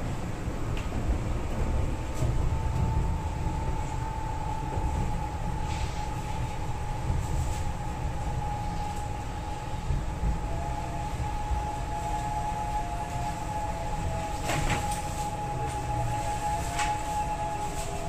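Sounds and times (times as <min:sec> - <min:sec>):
electric train whine and rumble: 0:00.0 - 0:18.0.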